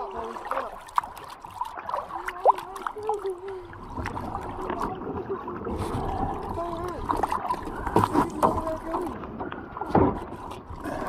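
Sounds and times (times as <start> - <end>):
water lapping around canoe: 0.0 - 11.0.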